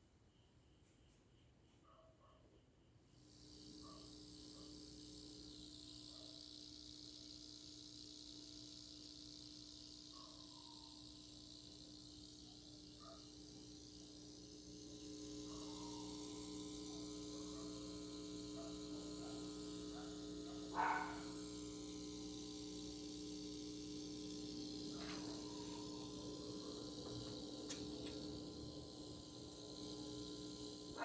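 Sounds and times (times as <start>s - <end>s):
turntable hum: 3.3s - 31.0s.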